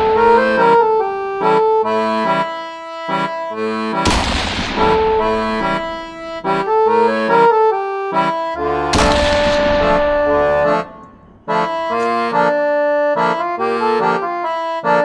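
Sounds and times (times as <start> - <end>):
background music melody: 0.0 - 15.0.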